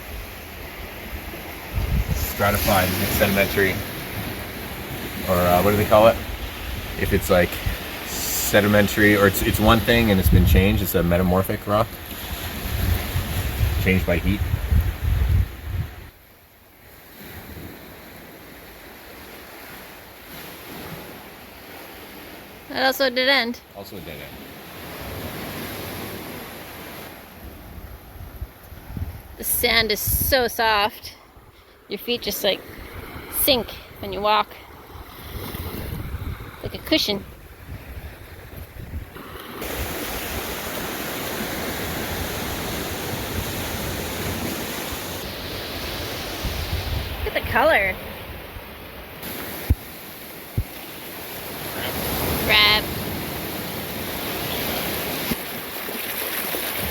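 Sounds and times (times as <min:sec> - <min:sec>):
ocean surf: 0:00.0 - 0:56.9
wind: 0:00.0 - 0:56.9.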